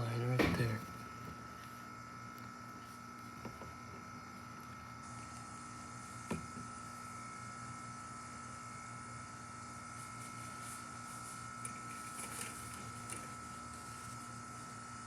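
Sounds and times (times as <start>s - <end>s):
air conditioner humming and whining: 0.0s - 15.0s.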